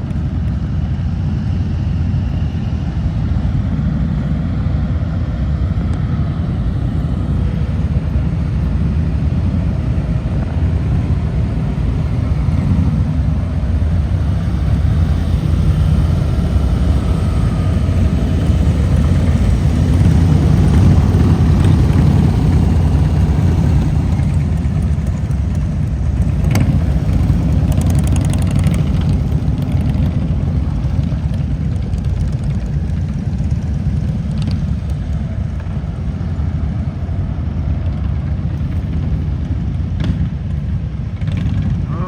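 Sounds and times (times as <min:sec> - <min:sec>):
motorcycle engines rumbling: 0:00.0 - 0:42.0.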